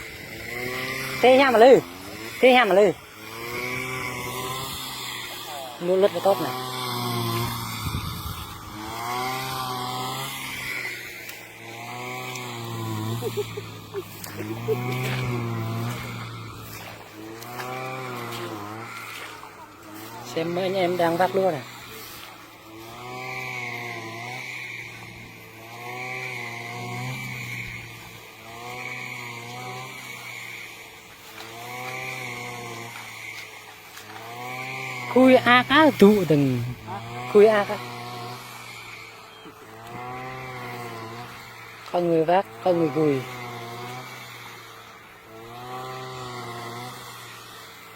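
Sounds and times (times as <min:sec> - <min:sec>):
brush cutter engine running: 0:00.0 - 0:47.9.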